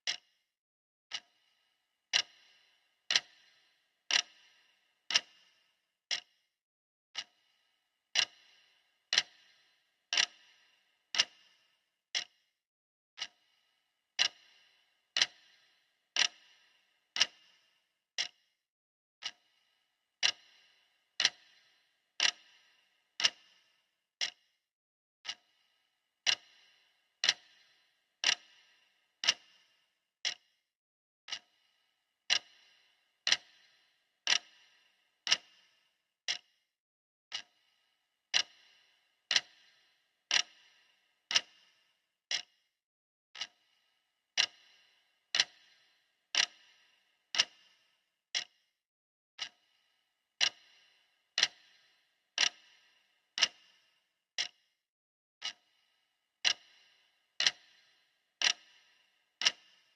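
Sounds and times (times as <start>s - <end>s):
clock ticking: 0.0s - 0.3s, 1.1s - 6.4s, 7.1s - 12.4s, 13.2s - 13.6s, 14.2s - 18.4s, 19.2s - 24.5s, 25.2s - 25.6s, 26.2s - 30.6s, 31.3s - 31.7s, 32.3s - 36.5s, 37.3s - 37.7s, 38.3s - 42.5s, 43.4s - 43.8s, 44.4s - 48.6s, 49.4s - 49.8s, 50.4s - 54.6s, 55.4s - 59.9s.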